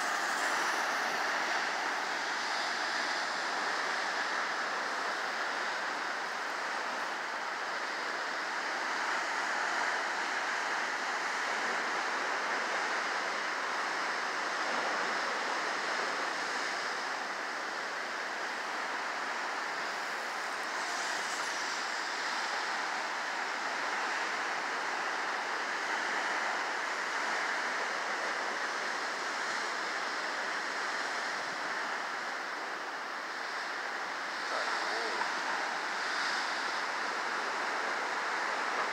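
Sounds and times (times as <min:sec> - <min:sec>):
ocean surf on rocks: 0:00.0 - 0:38.9.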